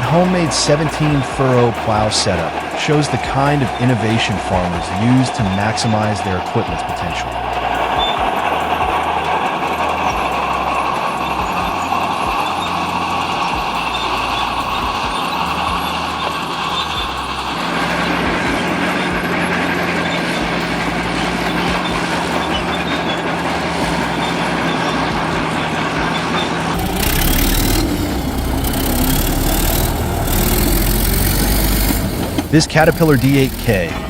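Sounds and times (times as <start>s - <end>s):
diesel engine running: 0.0s - 34.0s
rough bulldozer diesel engine: 0.0s - 34.0s.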